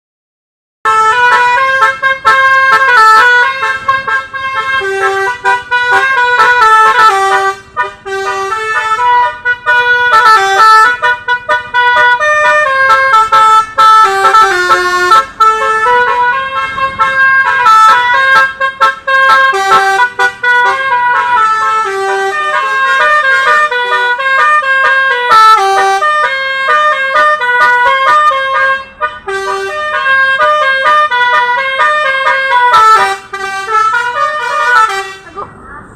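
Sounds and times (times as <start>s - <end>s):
musical air horn playing a tune: 0.8s - 35.4s.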